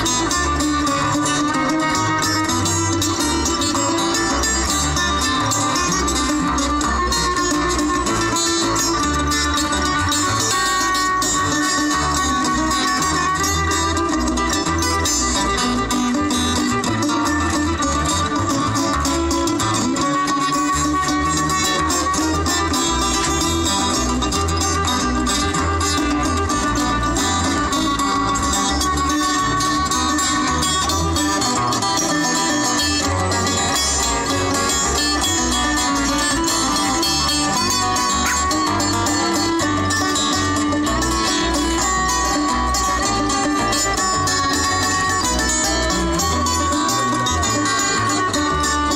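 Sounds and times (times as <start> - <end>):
acoustic bass guitar: 0.0 - 48.9
banjo: 0.0 - 48.9
bowed fiddle: 0.0 - 48.9
strummed acoustic guitars: 0.0 - 48.9.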